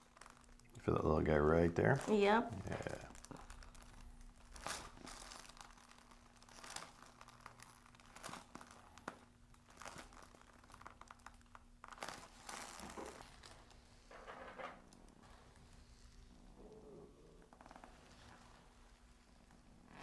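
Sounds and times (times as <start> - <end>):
faint steady hum: 0.0 - 20.0
soft rustling and crinkling: 0.0 - 20.0.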